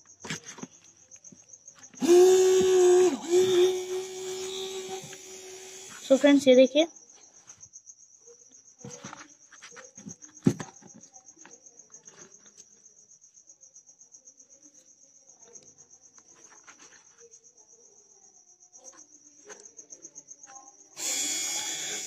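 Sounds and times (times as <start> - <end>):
cricket trilling: 0.0 - 22.0.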